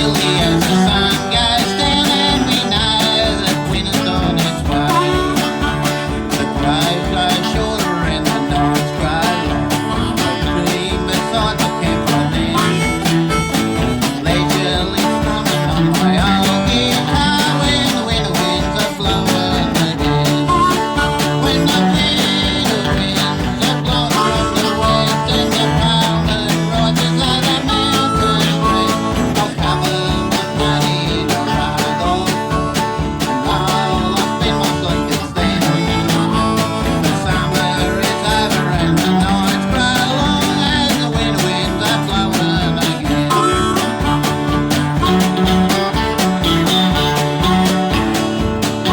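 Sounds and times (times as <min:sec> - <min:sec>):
country band with guitar: 0:00.0 - 0:48.9.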